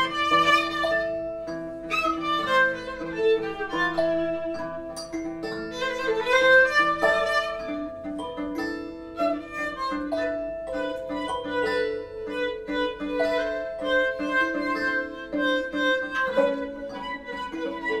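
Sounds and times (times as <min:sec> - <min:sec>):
held violin notes: 0:00.0 - 0:18.0.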